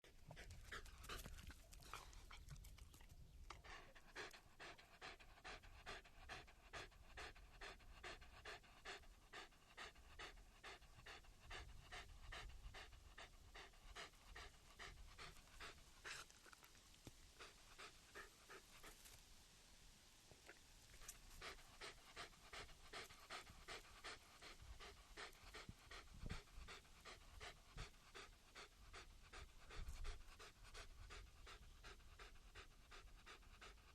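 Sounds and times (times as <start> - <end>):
dog panting: 0.0 - 19.2, 21.0 - 33.9.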